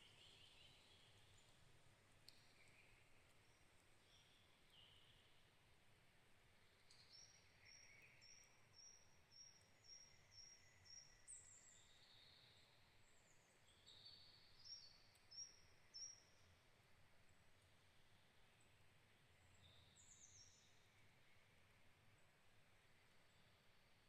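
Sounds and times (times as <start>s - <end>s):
soft steady background noise: 0.0s - 24.0s.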